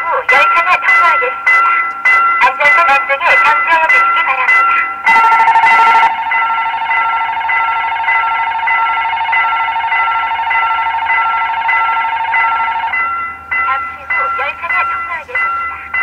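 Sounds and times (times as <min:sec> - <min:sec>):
level crossing warning alarm: 0:00.0 - 0:16.0.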